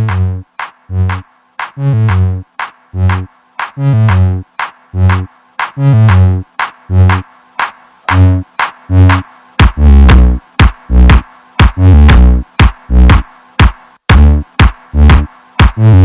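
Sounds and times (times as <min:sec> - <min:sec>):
synthesizer bass notes: 0:00.0 - 0:07.3, 0:08.1 - 0:13.3, 0:14.1 - 0:16.0
drum machine beat: 0:00.0 - 0:16.0.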